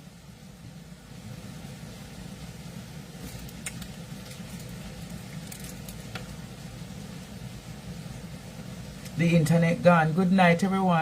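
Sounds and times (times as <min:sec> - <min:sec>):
heavy rain heard from indoors: 0:00.0 - 0:11.0.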